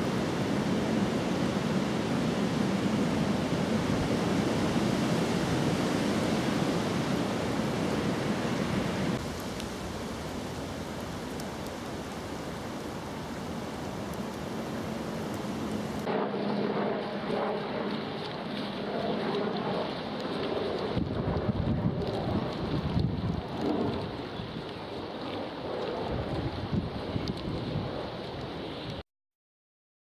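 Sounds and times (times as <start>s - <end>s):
rain falling on water: 0.0s - 29.0s.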